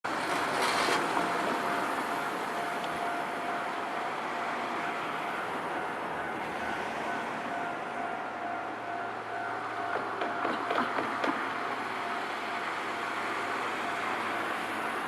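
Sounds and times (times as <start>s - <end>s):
vehicle noise: 0.0s - 15.0s.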